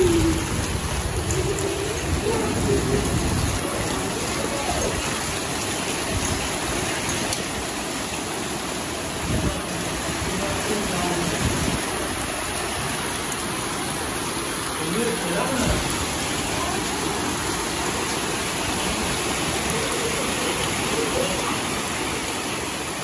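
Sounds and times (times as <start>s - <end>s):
heavy rain on concrete roofs: 0.0s - 23.0s.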